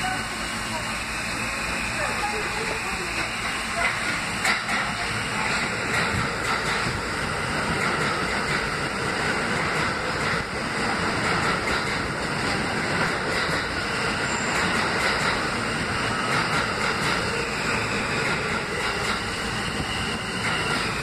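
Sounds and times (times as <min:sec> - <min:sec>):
subway train wheels on rails: 0:00.0 - 0:21.0.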